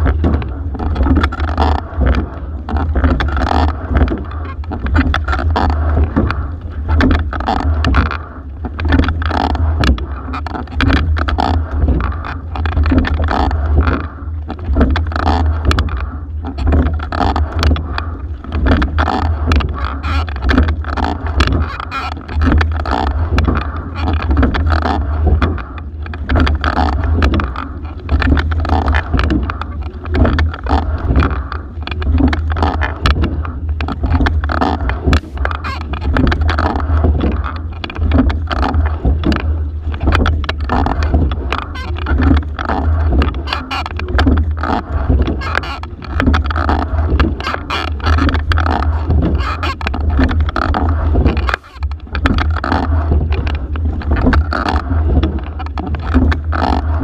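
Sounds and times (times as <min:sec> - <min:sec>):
oars and seat clicking: 0:00.0 - 0:57.0
water rushing past a hull: 0:00.0 - 0:57.0.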